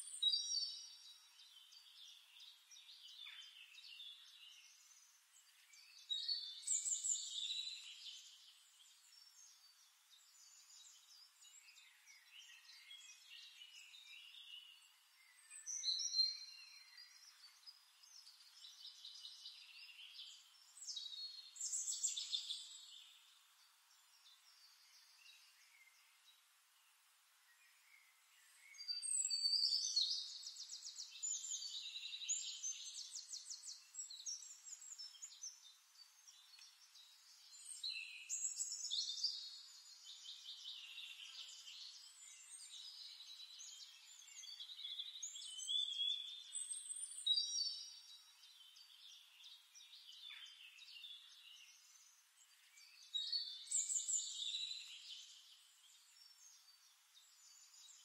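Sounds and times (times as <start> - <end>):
birds singing chirps and trills: 0.0 - 58.0
faint background bird calls: 0.0 - 58.0.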